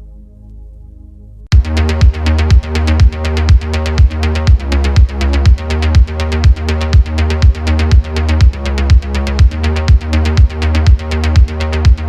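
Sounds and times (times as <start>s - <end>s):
electronic dance music: 1.5s - 12.0s
kick drum: 1.5s - 12.0s.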